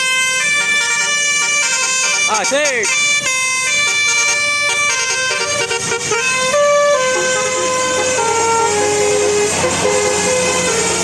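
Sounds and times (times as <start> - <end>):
bus horn playing a tune: 0.0 - 11.0.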